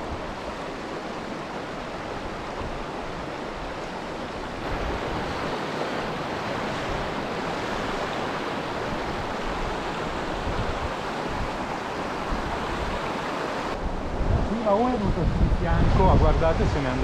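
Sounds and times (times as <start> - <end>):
water rushing over rocks: 0.0 - 13.8.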